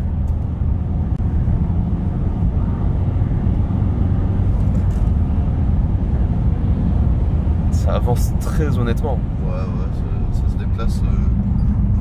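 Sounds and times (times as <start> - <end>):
diesel engine droning: 0.0 - 12.0
road noise: 0.0 - 12.0.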